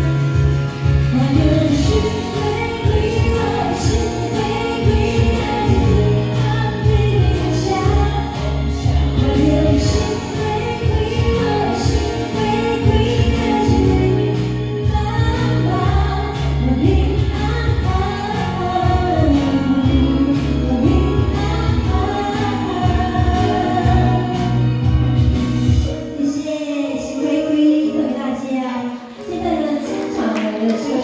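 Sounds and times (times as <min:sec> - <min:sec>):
amplified instrumental accompaniment: 0:00.0 - 0:31.0
woman singing into a microphone: 0:00.0 - 0:31.0.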